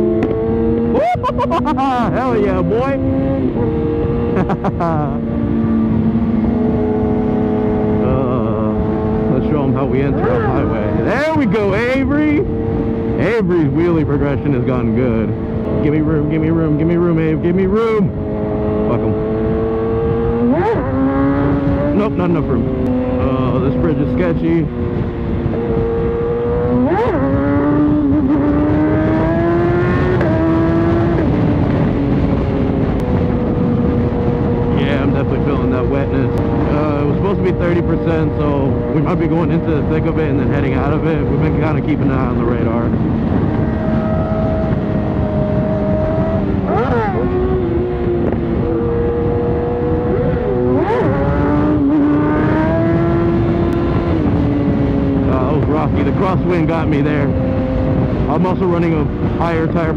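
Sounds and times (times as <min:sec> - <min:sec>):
motorcycle engine droning: 0:00.0 - 0:59.9
wind rush: 0:00.0 - 0:59.9.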